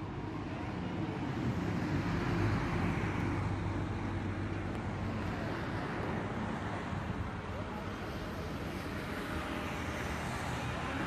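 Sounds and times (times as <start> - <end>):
outdoor traffic rumble: 0.0 - 11.0.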